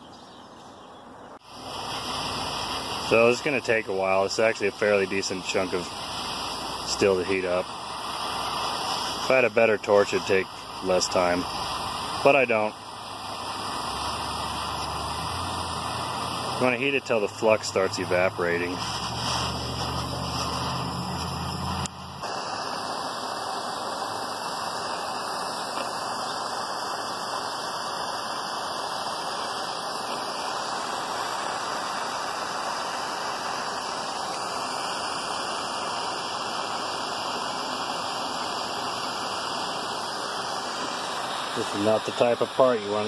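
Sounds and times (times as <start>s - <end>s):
gas torch hissing: 1.4s - 43.0s.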